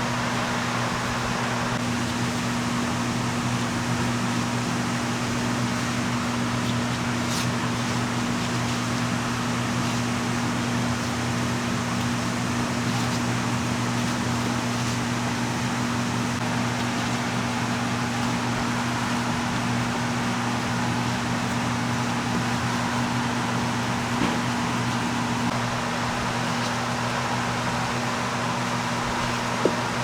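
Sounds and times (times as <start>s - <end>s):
ventilation fan humming: 0.0s - 30.0s.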